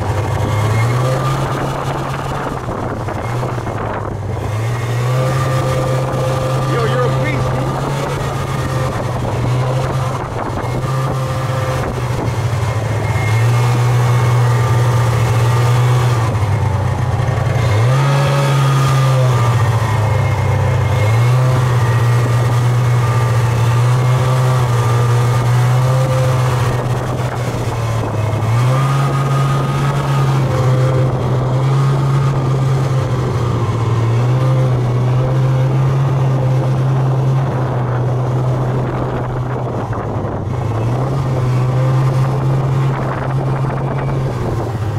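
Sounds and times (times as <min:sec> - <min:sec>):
snowmobile engine running: 0:00.0 - 0:44.9.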